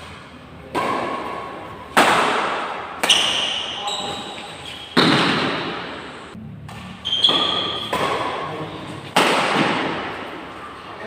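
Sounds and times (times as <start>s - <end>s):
racket hitting shuttlecock: 0.0s - 10.7s.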